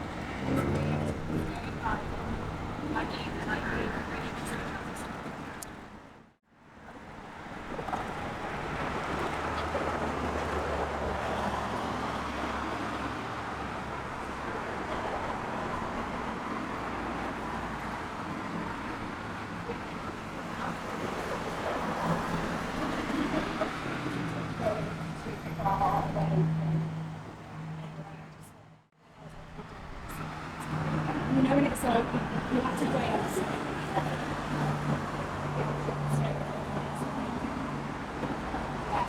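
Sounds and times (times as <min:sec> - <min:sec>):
distant road traffic: 0:00.0 - 0:39.0.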